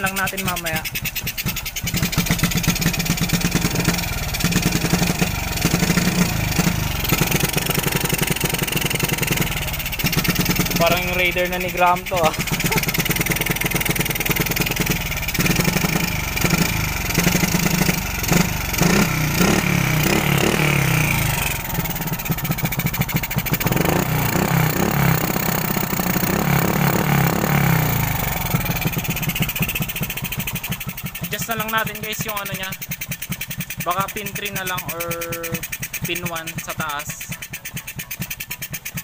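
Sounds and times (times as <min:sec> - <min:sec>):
motorcycle engine running unevenly: 0:00.0 - 0:39.0.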